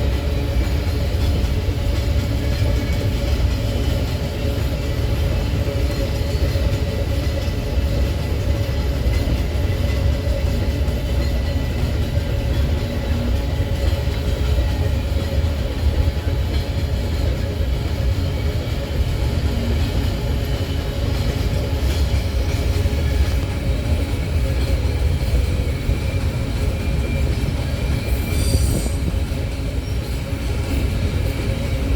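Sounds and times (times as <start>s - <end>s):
freight wagons rumbling on rails: 0.0s - 31.9s.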